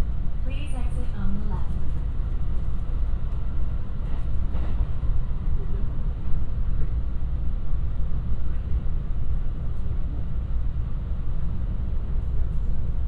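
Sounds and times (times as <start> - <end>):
train interior low rumble: 0.0 - 13.0.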